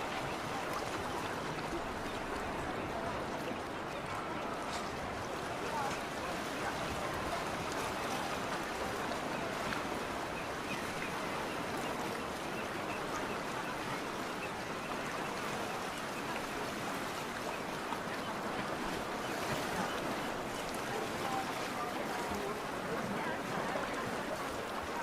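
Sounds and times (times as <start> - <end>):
water washing: 0.0 - 25.0.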